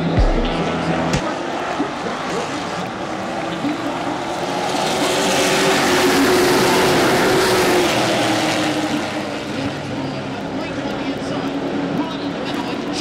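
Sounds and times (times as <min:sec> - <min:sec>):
race truck engines passing: 0:00.0 - 0:13.0.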